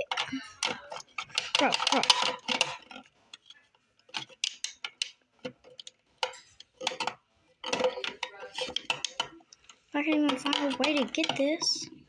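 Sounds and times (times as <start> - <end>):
plastic containers clinking on acrylic: 0.0 - 12.0.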